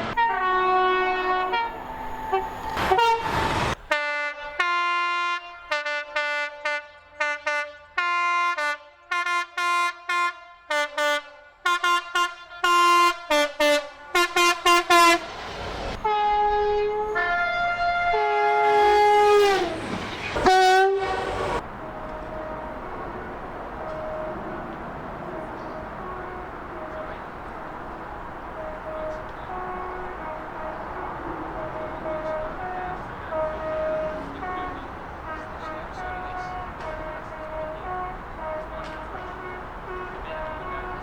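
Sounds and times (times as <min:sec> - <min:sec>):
train passing: 0:00.0 - 0:04.6, 0:12.4 - 0:41.0
train horn blasts playing a tune: 0:00.0 - 0:15.3, 0:15.9 - 0:41.0
long train horn blasts: 0:00.0 - 0:41.0.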